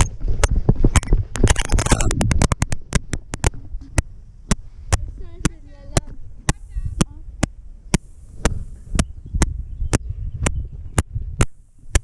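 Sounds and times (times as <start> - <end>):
low rumble: 0.0 - 12.0
sharp recording clicks: 0.0 - 12.0.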